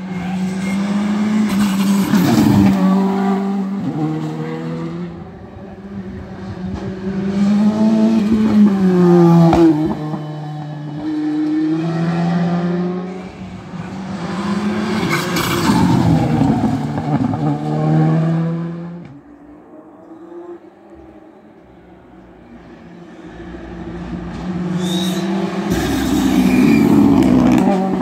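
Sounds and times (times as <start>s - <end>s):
rally car engine revving: 0.0s - 21.1s, 23.2s - 28.0s.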